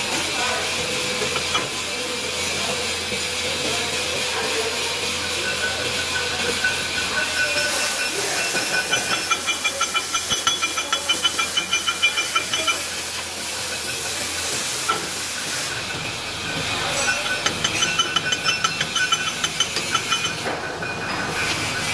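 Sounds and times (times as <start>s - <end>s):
welding arc hiss and crackle: 0.0s - 21.9s.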